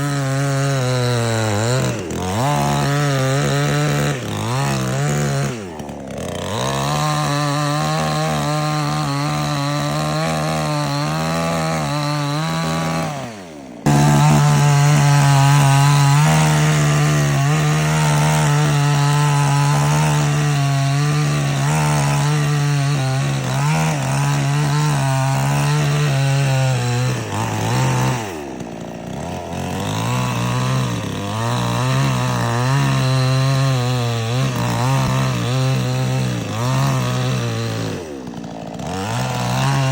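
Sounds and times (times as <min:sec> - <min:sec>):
chainsaw running at high revs: 0:00.0 - 0:39.9.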